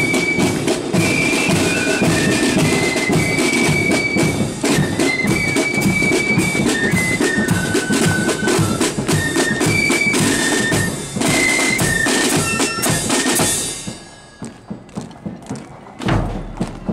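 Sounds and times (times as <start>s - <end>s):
cymbals: 0.0s - 14.9s
flutes playing melody: 0.0s - 16.9s
side drums rattling: 0.0s - 16.9s.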